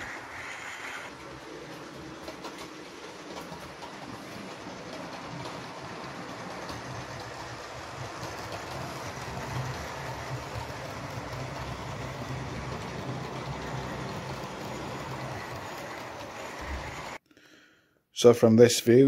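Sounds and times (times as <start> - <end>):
model train wheels rumbling on rail: 0.0 - 17.2.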